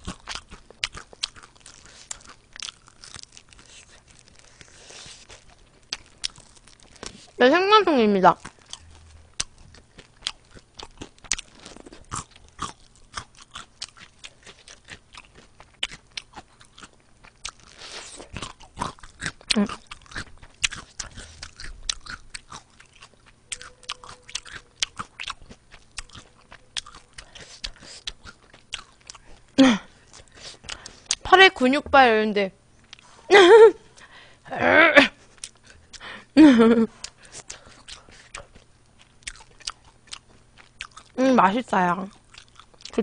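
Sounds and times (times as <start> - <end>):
crunching fried chicken: 0.0 - 31.3, 36.9 - 41.2, 42.1 - 43.0
soft chewing: 0.0 - 31.3, 32.7 - 34.4, 35.1 - 41.2, 42.0 - 43.0.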